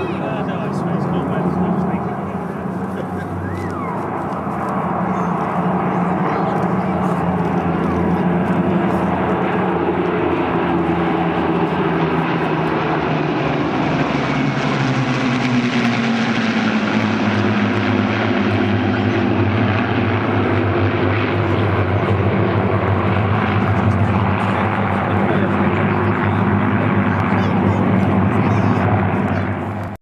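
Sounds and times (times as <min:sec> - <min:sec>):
piston aircraft engines droning: 0:00.0 - 0:30.0.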